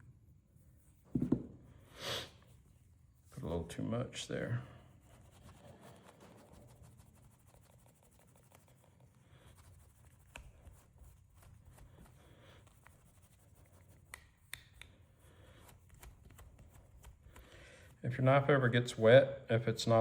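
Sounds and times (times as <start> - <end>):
faint rubbing of polish: 0.0 - 18.8.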